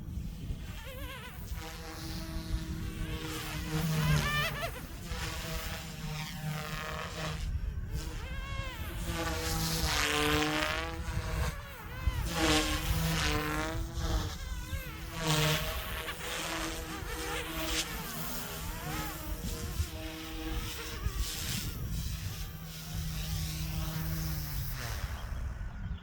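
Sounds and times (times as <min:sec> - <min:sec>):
rc helicopter rotors whining: 0:00.0 - 0:26.0.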